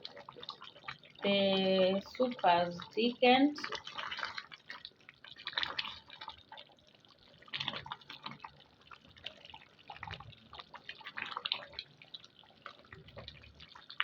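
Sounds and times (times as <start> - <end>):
thick sauce bubbling in a pot: 0.0 - 14.0.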